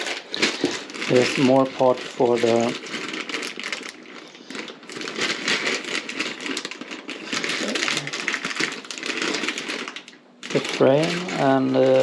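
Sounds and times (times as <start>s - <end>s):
plastic parts clattering: 0.0s - 12.0s.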